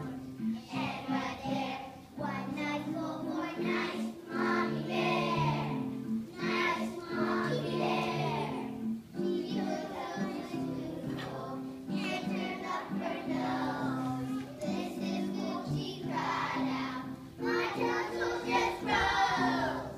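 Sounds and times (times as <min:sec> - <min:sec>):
children singing together: 0:00.0 - 0:19.9
musical accompaniment: 0:00.0 - 0:19.9.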